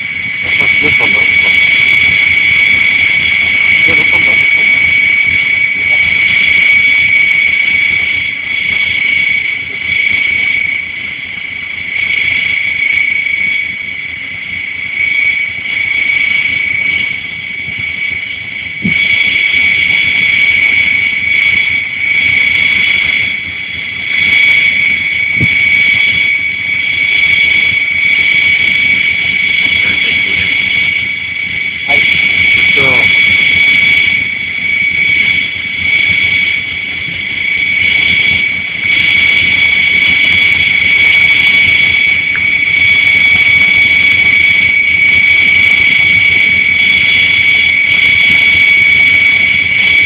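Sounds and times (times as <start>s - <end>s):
high-pitched mechanical whine: 0.0s - 50.0s.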